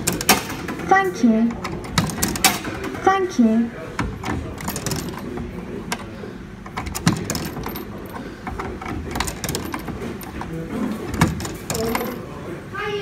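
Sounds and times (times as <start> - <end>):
coins clicking in coin slot: 0.0 - 0.9, 1.5 - 3.0, 4.1 - 12.3.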